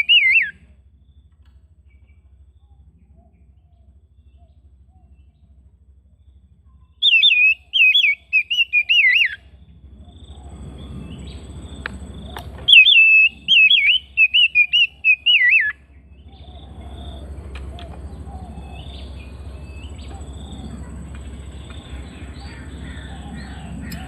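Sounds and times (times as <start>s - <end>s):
bird warbling song: 0.0s - 24.0s
low steady hum: 0.0s - 24.0s.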